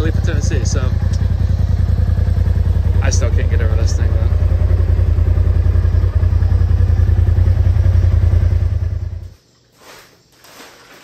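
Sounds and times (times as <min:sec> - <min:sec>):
engine idling: 0:00.0 - 0:09.4.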